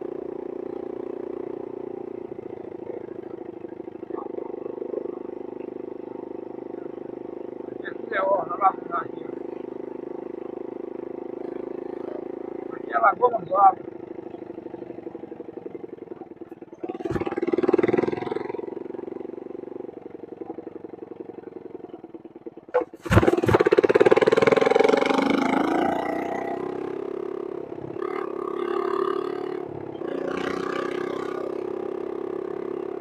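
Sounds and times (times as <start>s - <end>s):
small motorcycle engine running: 0.0s - 33.0s.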